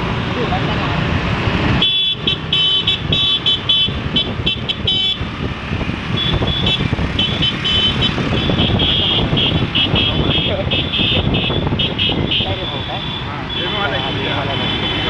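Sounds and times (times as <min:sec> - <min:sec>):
motorbike engines rumbling: 0:00.0 - 0:15.0
wind: 0:00.0 - 0:15.0
motorbike horns honking: 0:01.8 - 0:15.0.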